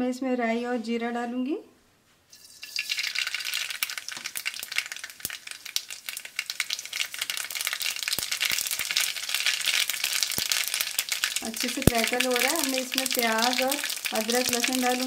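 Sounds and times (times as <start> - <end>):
oil sizzling: 2.3 - 15.0
seeds popping in hot oil: 2.3 - 15.0.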